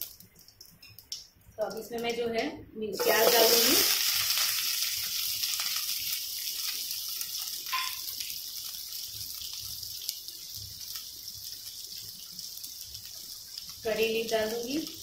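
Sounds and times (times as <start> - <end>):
onions sizzling in a pan: 2.9 - 15.0.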